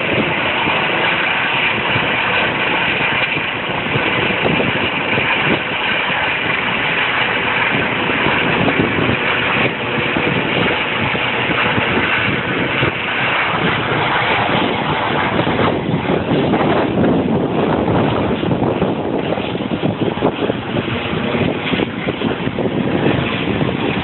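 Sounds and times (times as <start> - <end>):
helicopter rotor and turbine: 0.0 - 24.0.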